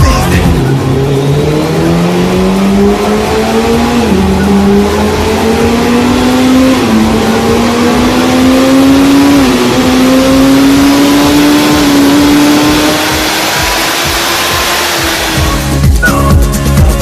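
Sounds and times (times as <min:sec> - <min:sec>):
engine accelerating through gears: 0:00.0 - 0:17.0.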